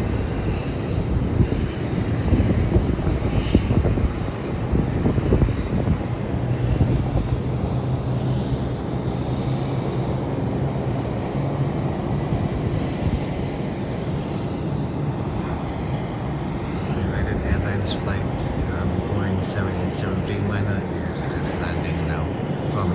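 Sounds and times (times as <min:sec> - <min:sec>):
jet engines roaring: 0:00.0 - 0:22.9
wind buffeting microphone: 0:00.0 - 0:22.9.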